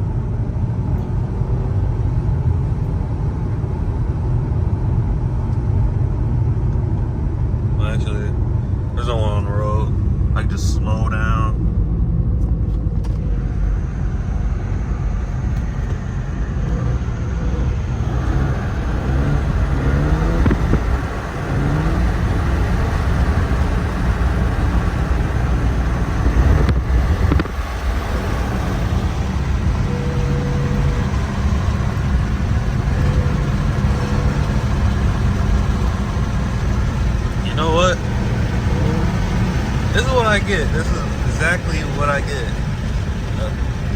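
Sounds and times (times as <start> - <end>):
car engine and exhaust: 0.0 - 43.9.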